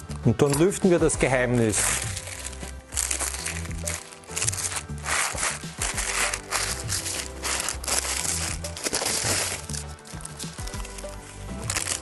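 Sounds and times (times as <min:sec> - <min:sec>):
background music: 0:00.0 - 0:12.0
paper wrapping crinkling: 0:01.2 - 0:12.0.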